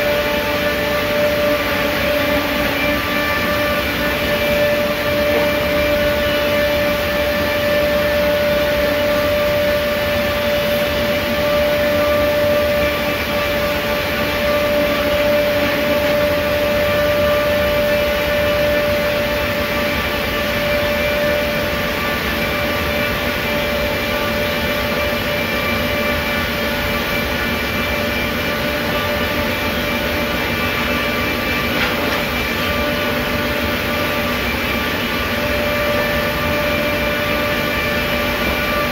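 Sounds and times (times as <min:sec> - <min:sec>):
saw whining through boards: 0:00.0 - 0:38.9.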